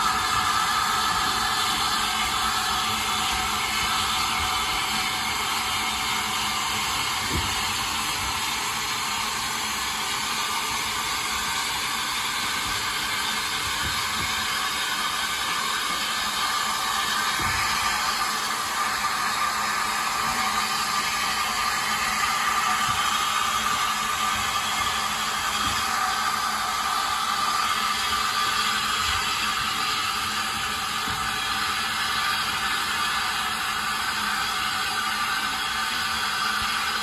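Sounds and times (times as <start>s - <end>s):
steam hissing from engine: 0.0s - 37.0s.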